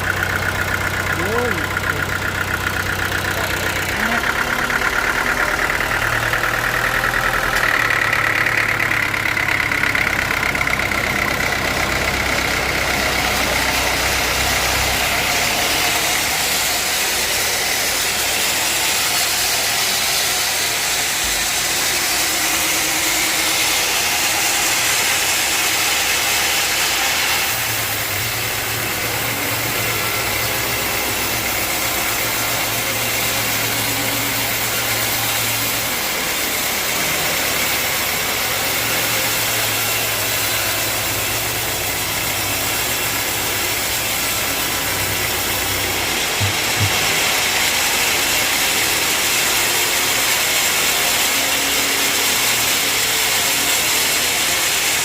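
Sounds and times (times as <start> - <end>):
sawmill machine running: 0.0 - 55.0
hiss: 2.4 - 55.0.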